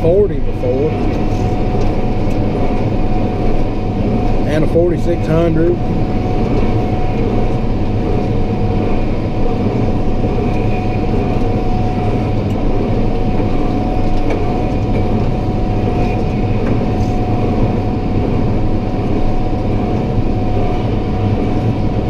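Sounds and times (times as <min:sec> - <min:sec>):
steady tone: 0:00.0 - 0:22.0
tractor diesel engine: 0:00.0 - 0:22.0.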